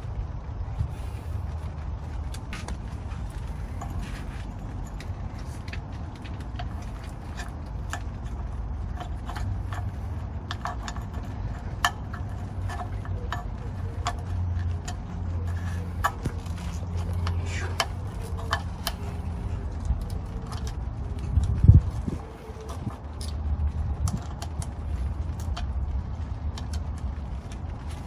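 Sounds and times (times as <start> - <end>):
steady low hum: 0.0 - 28.0
rubber hoses clicking and tapping: 0.2 - 28.0.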